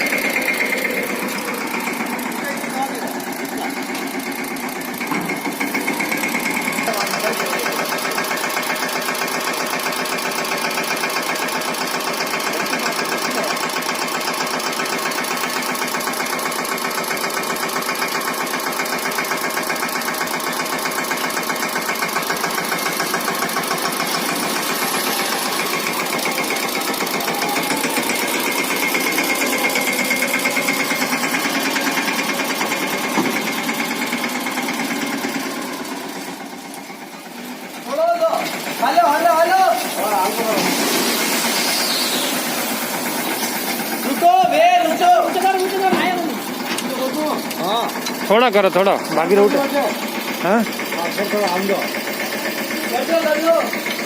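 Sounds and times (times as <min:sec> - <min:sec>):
diesel tractor engine clattering: 0:00.0 - 0:54.0.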